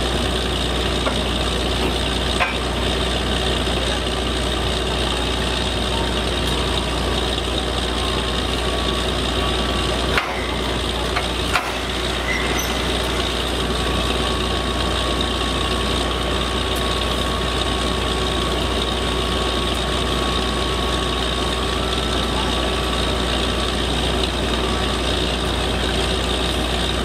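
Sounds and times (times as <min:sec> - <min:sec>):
drilling rig machine noise: 0:00.0 - 0:27.0.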